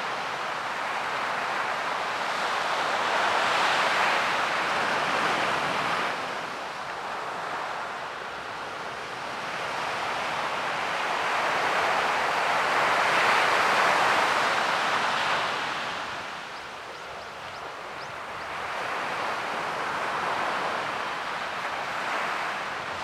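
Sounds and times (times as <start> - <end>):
ocean surf: 0.0 - 23.0.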